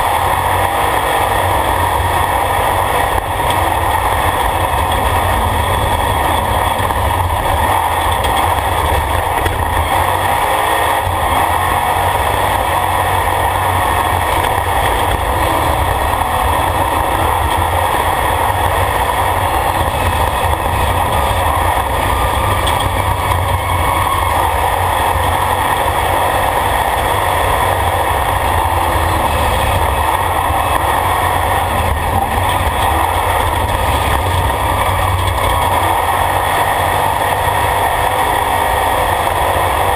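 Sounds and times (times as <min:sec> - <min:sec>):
off-road vehicle engine running: 0:00.0 - 0:39.9
road noise: 0:00.0 - 0:39.9.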